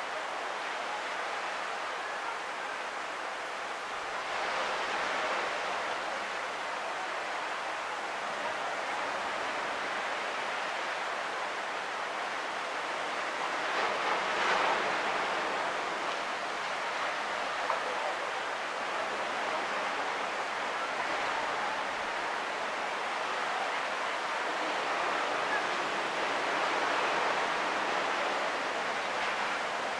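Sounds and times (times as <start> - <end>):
surf washing onto beach: 0.0 - 29.9.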